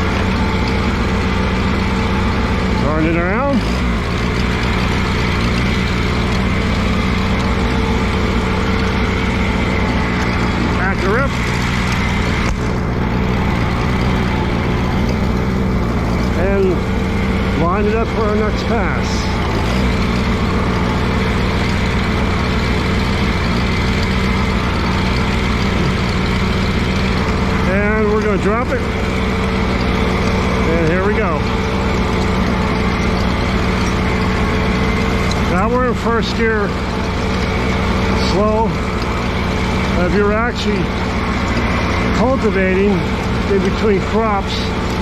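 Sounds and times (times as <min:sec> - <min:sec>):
tractor engine running steadily: 0:00.0 - 0:45.0.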